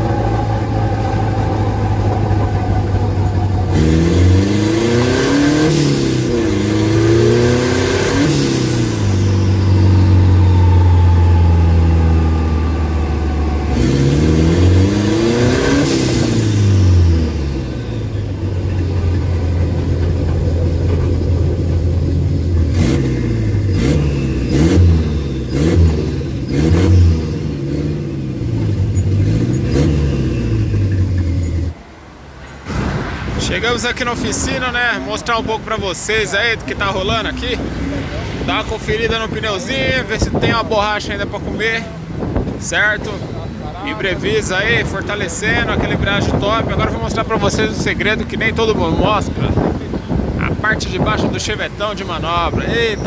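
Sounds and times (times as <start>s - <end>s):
car engine accelerating: 0.0s - 53.0s
engine throttle blips: 0.0s - 53.0s.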